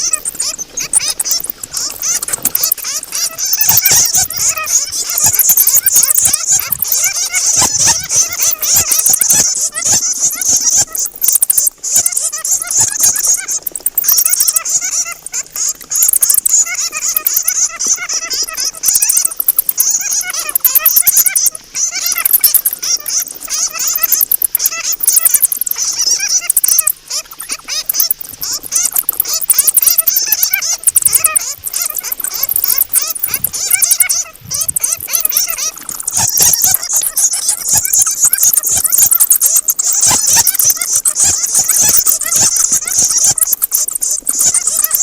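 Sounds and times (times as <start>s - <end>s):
bats squeaking and chittering: 0.0s - 45.0s.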